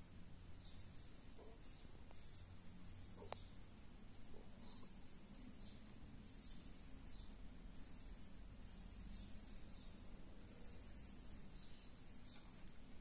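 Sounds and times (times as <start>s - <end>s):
low steady hum: 0.0s - 13.0s
marker scratching on glossy paper: 0.6s - 13.0s.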